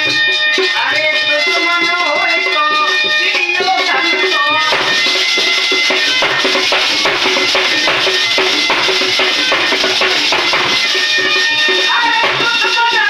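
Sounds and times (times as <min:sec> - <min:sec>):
shaken percussion: 0:00.0 - 0:13.0
sustained melody line: 0:00.8 - 0:13.0
hand drum strokes: 0:02.3 - 0:13.0.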